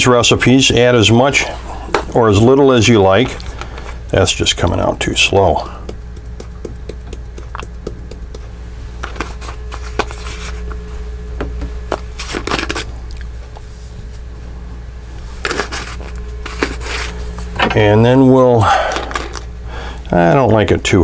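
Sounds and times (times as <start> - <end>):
low hum: 0.0 - 20.9.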